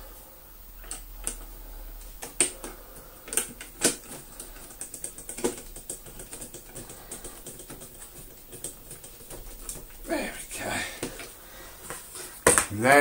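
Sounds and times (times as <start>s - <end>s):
plastic vacuum parts clicking: 2.2s - 12.7s.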